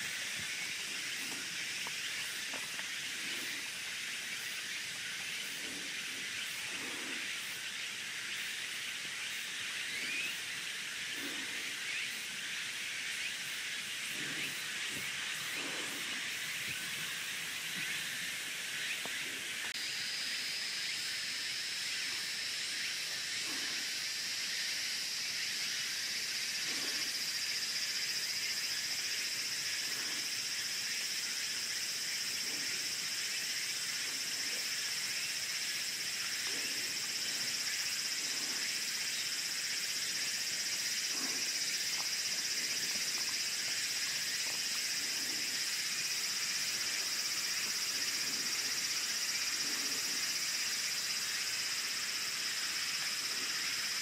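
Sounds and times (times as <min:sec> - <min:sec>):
high-pitched outdoor hiss: 0:00.0 - 0:54.0.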